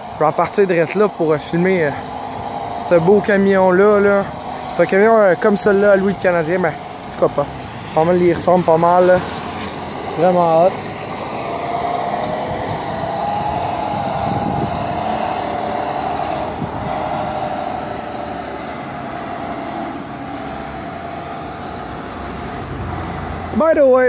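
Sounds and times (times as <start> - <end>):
diesel truck engine rumble: 0.0 - 24.0
steady whine: 0.0 - 24.0.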